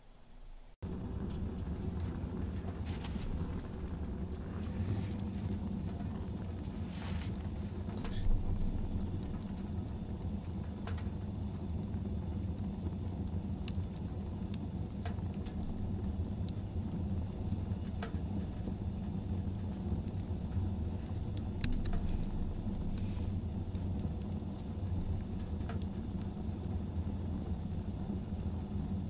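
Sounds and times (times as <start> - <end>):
log fire rumbling: 0.4 - 29.0
fire crackling and popping: 0.8 - 29.0.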